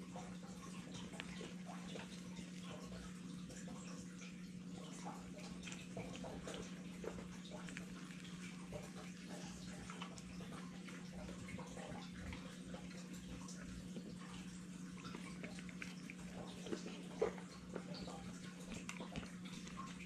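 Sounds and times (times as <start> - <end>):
dog chewing wetly: 0.0 - 20.0.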